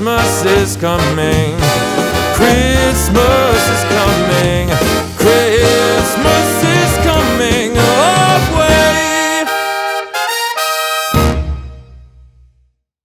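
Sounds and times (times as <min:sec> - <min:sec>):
upbeat christmas pop song: 0:00.0 - 0:11.7.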